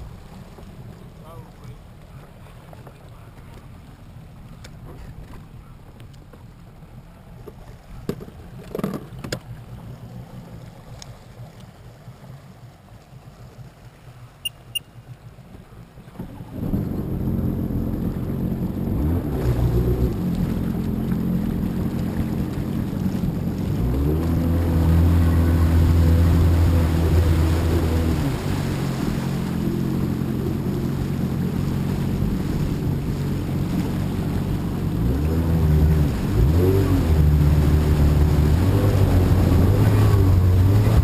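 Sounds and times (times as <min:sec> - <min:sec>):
watercraft engine: 0:00.0 - 0:41.0.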